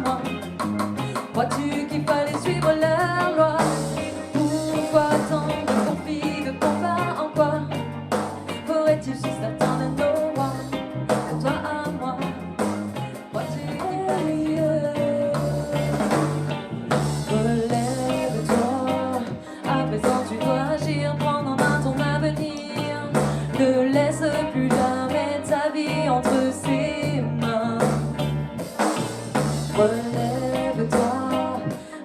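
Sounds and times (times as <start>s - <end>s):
person singing: 0.0s - 28.3s, 29.7s - 32.0s
band playing reggae-rock song: 0.0s - 32.0s.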